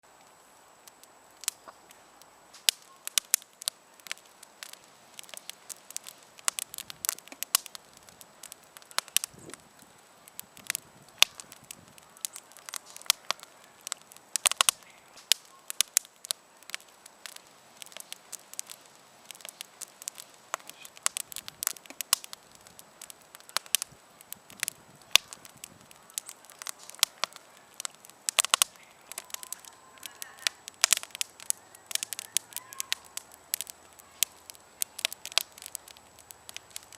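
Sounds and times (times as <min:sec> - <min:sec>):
campfire crackling and popping: 0:00.0 - 0:36.9
faint low hiss: 0:00.0 - 0:36.9.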